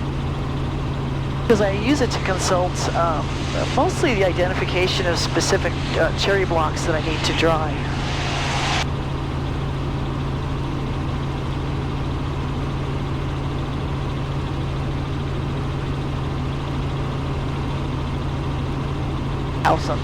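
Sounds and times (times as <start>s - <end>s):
helicopter engine and rotors droning: 0.0s - 20.0s.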